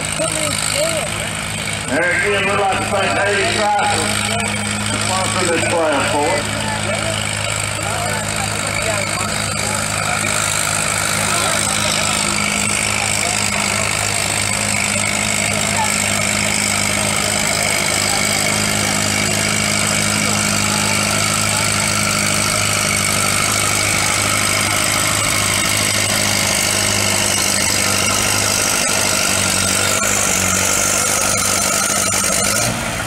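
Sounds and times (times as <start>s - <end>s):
tractor engine running under load: 0.0s - 33.0s.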